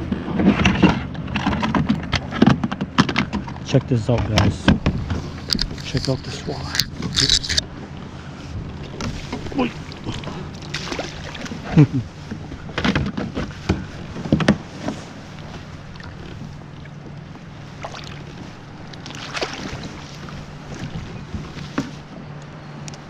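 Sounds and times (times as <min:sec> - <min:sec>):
gear knocking aboard a kayak: 0:00.0 - 0:07.6, 0:08.7 - 0:22.1.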